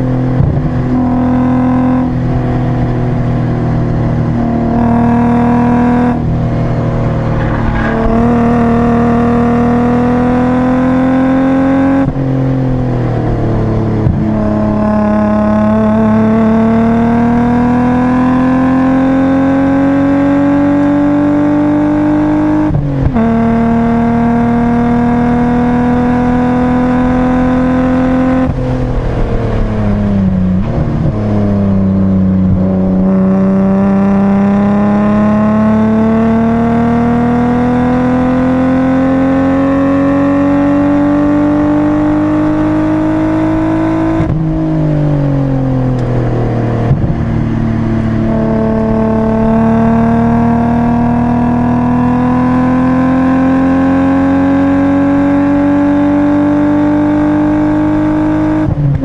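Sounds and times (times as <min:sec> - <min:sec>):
car engine pulling hard: 0:00.0 - 0:59.0.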